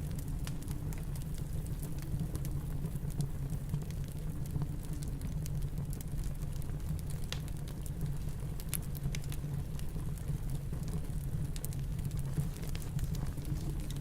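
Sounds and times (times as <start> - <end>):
fireplace crackling and popping: 0.0 - 14.0.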